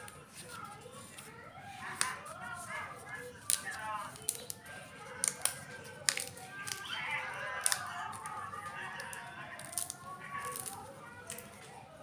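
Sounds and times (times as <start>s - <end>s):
banana leaf crackling and rustling: 0.1s - 11.8s.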